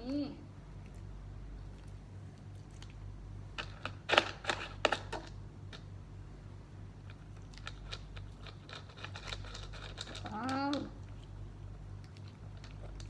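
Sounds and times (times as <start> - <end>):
steady low hum: 0.0 - 13.0
cat chewing food: 0.6 - 5.9, 6.8 - 13.0.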